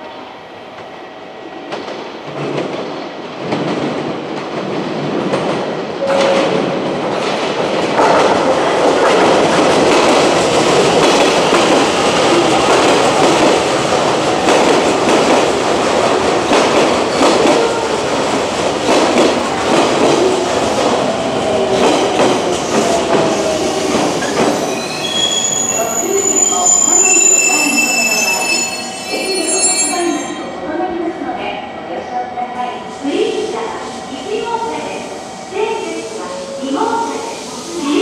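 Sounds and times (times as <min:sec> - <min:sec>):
electric train rumbling: 0:00.0 - 0:38.0.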